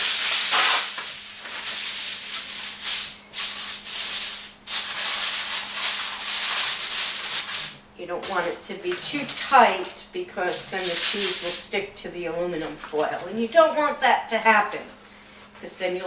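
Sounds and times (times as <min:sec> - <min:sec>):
aluminum foil crinkling: 0:00.0 - 0:13.8.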